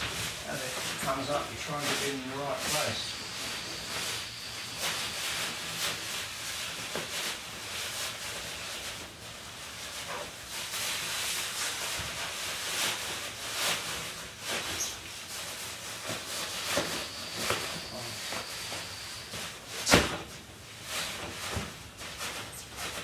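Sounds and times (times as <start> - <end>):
plastic and fabric rustling: 0.0 - 23.0
steady hiss: 0.0 - 23.0.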